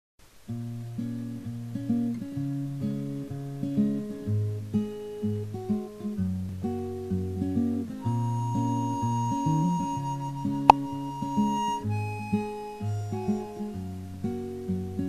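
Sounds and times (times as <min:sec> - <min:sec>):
acoustic guitar melody: 0:00.4 - 0:15.0.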